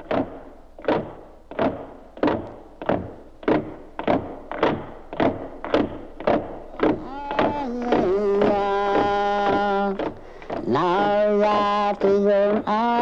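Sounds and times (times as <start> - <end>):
hollow knocks ringing: 0.0 - 11.2.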